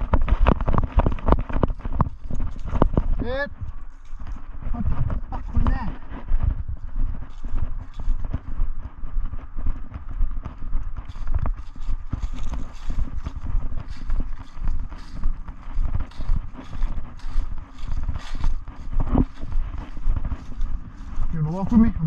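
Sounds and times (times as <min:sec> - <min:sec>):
footsteps walking on ground: 0:00.0 - 0:22.0.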